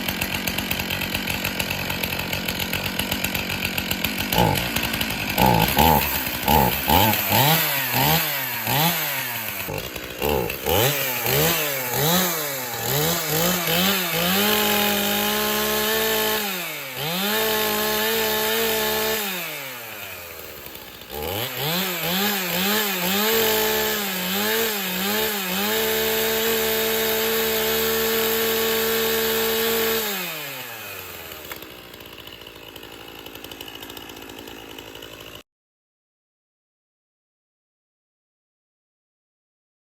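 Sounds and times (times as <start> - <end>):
chainsaw engine revving: 0.0 - 35.4.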